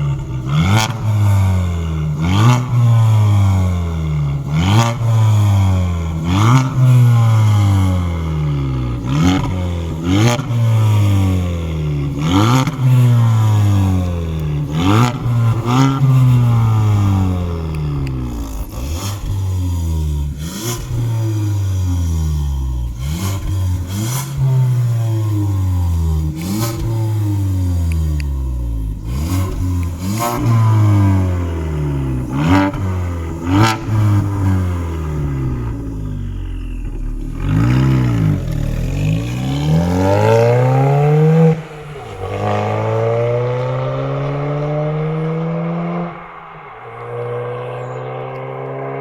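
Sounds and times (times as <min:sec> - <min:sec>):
car engine revving: 0:00.0 - 0:49.0
exhaust crack: 0:00.0 - 0:49.0.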